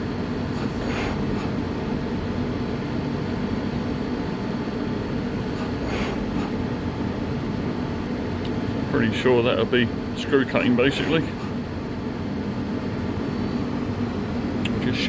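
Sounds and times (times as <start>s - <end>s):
lathe machine hum: 0.0s - 15.0s.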